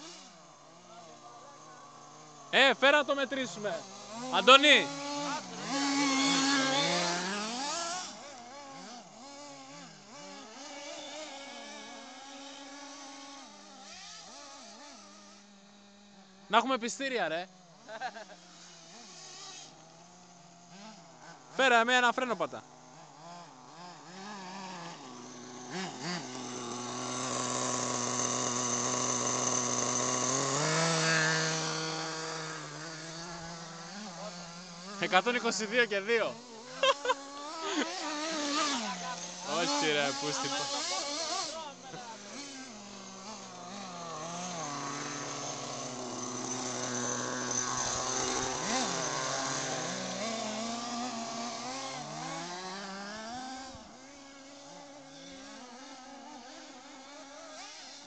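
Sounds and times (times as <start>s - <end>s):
small petrol engines revving: 0.0s - 58.0s.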